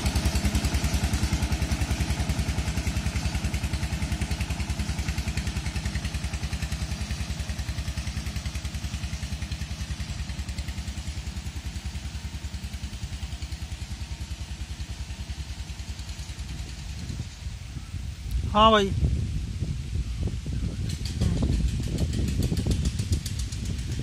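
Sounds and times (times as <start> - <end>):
diesel tractor engine chugging: 0.0 - 18.9, 20.0 - 24.0.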